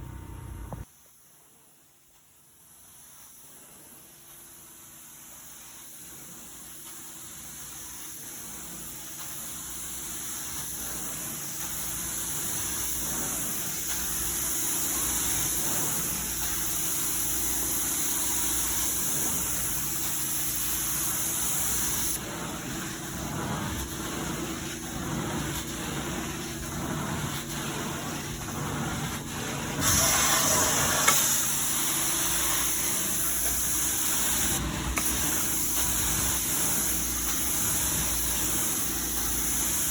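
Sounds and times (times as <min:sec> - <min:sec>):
carpet cleaning machine running: 0:03.8 - 0:39.9.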